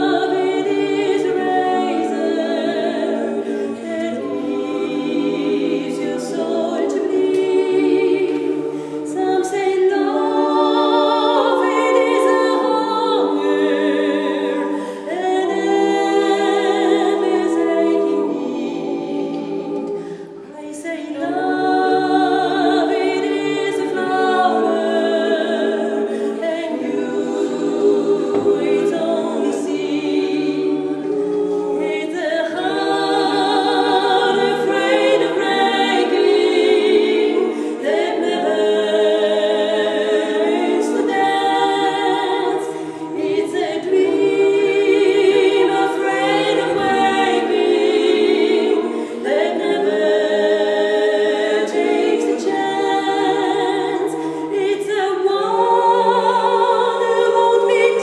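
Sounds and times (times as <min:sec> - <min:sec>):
women singing a cappella: 0:00.0 - 0:58.0.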